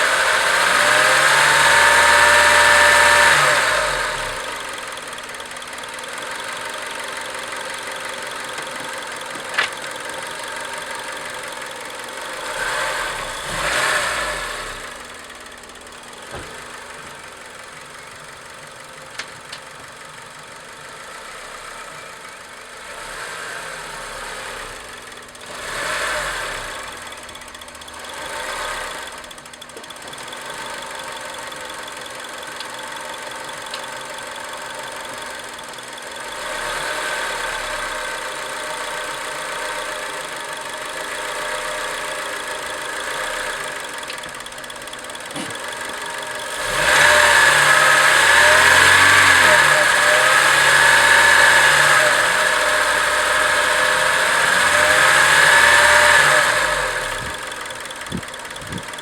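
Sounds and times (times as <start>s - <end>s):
engine idling with ticking: 0.0s - 59.0s.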